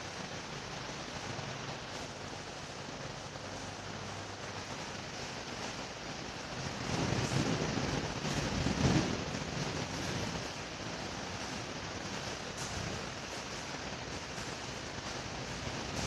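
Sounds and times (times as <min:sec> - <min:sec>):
ceiling fan air rush: 0:00.0 - 0:16.0
faint low fan hum: 0:00.0 - 0:16.0.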